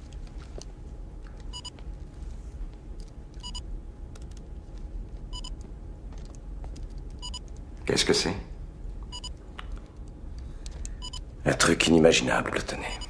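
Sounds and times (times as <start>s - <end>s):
control room hum: 0.0s - 13.0s.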